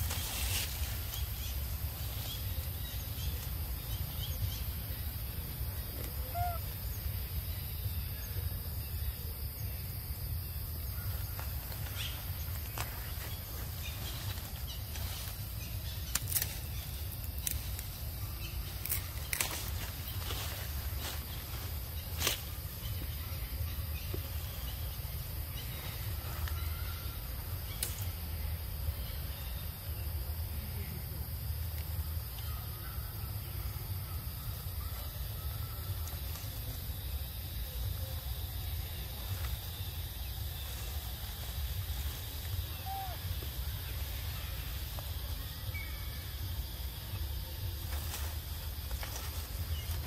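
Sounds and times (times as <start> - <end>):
constant low rumble: 0.0 - 50.0
high insect hum: 0.0 - 50.0.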